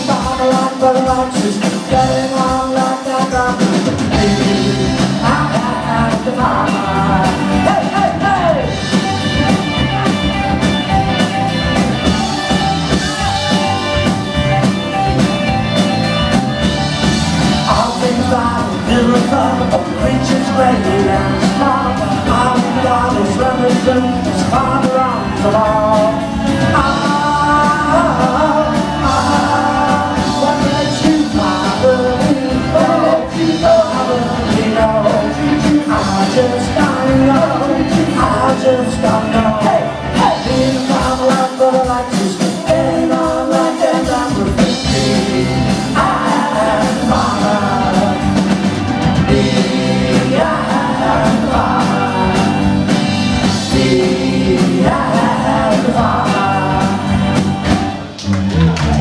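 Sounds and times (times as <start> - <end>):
lead vocal singing: 0.0 - 10.2, 17.0 - 58.2
pop-rock band playing: 0.0 - 59.0.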